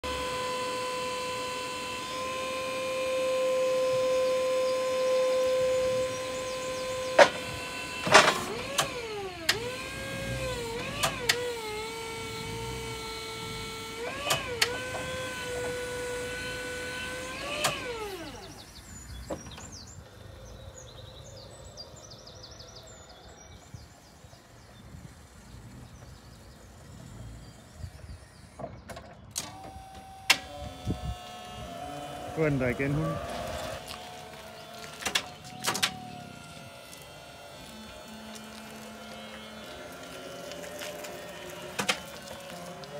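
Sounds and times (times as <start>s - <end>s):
hydraulic pump motor whining: 0.0s - 21.4s, 23.5s - 42.9s.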